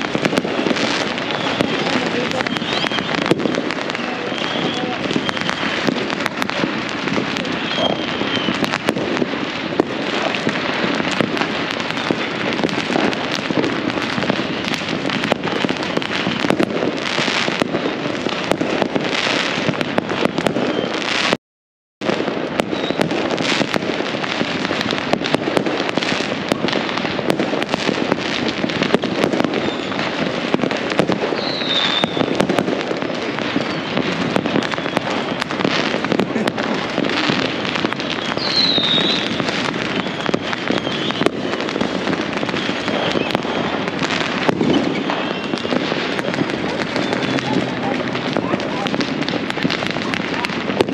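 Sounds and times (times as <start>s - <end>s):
fireworks crackling and popping: 0.0s - 21.4s, 22.0s - 50.9s.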